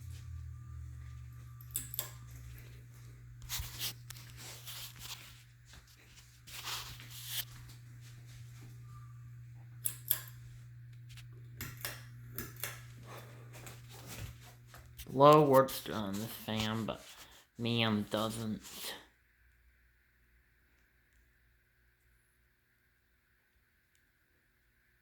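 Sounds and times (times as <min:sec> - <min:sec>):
ceiling fan humming: 0:00.0 - 0:25.0.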